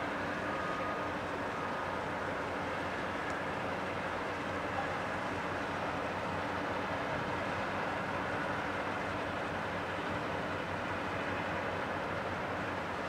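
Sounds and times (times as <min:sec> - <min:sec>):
diesel engine drone: 0:00.0 - 0:13.0
wind: 0:00.0 - 0:13.0.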